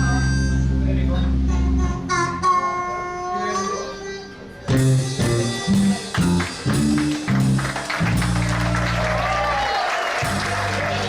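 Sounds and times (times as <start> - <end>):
blues band playing: 0.0 - 11.0.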